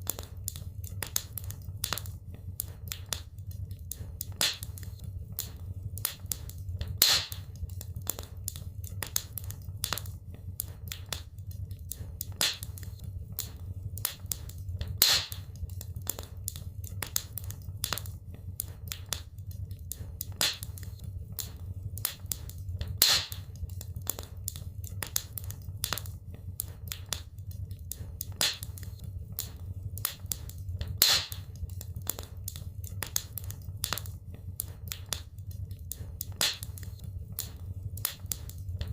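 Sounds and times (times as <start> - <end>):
fire popping: 0.0 - 38.9
steady low hum: 0.0 - 38.9
wood fire crackling: 0.0 - 38.9.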